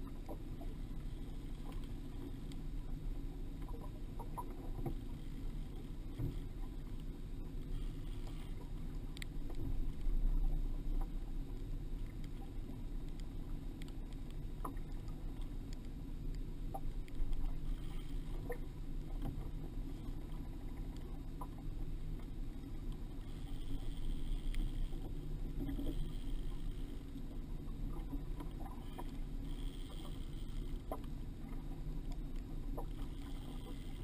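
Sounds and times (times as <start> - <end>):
boat low rumble: 0.0 - 34.0
faint clicks: 0.0 - 34.0.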